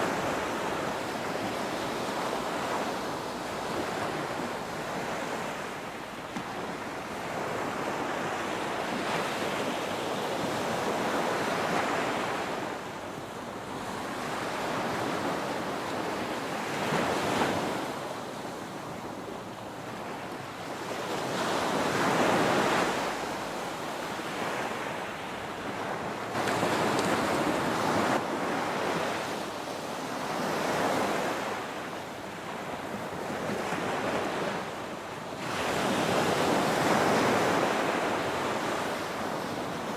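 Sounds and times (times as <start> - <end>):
ocean surf breaking on a beach: 0.0 - 39.9.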